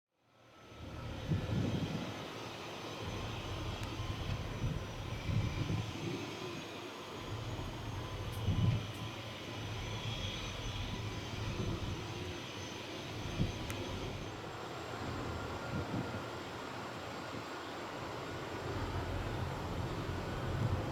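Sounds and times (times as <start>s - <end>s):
helicopter turbine whine: 0.3s - 20.9s
helicopter rotor throb: 0.8s - 20.9s.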